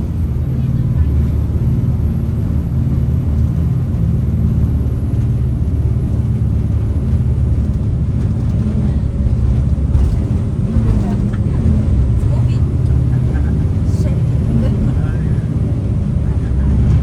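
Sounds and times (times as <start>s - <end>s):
boat engines droning: 0.0s - 17.0s.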